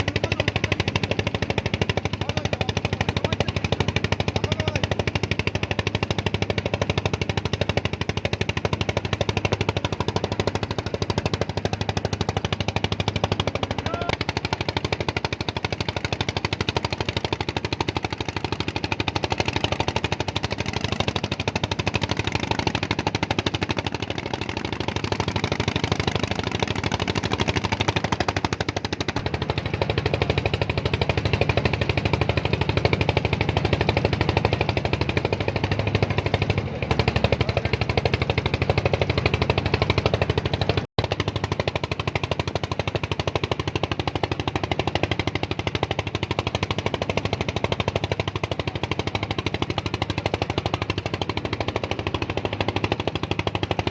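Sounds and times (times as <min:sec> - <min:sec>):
small engine chugging: 0:00.0 - 0:53.9.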